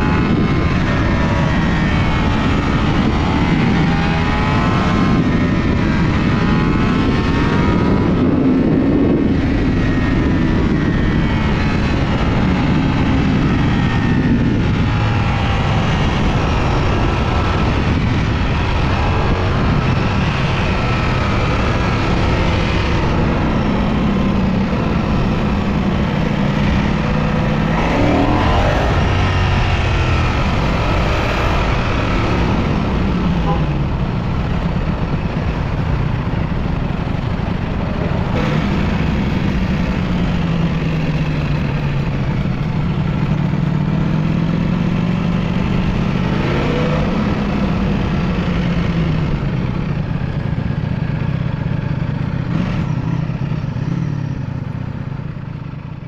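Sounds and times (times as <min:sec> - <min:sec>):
steady rushing noise: 0:00.0 - 0:51.9
motorcycle engine revving: 0:00.0 - 0:55.7.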